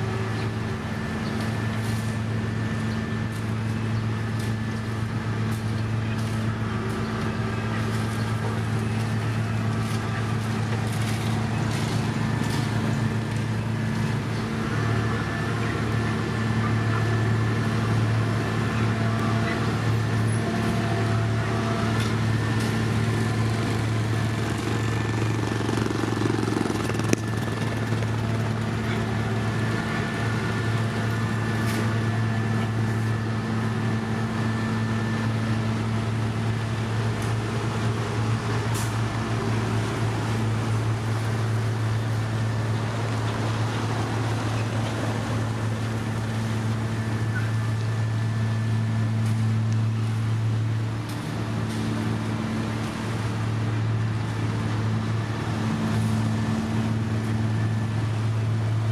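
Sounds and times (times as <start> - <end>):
diesel machinery running: 0.0 - 58.9.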